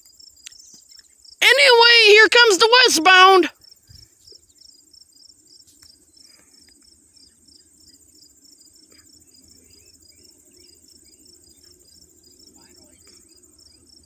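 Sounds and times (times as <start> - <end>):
continuous high insect trill: 0.0 - 1.4, 3.6 - 14.0.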